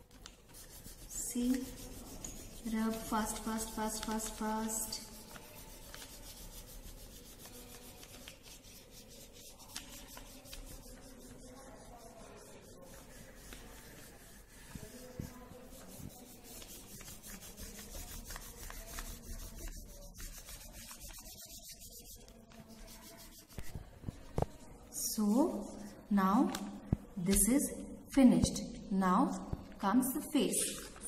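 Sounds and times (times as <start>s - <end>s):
crayon rubbing on paper: 0.2s - 25.1s.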